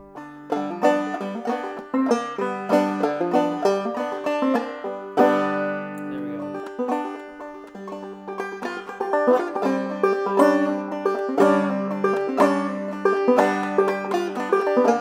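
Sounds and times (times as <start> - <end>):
banjo chord ringing: 0.0 - 15.0
banjo picking: 0.0 - 15.0.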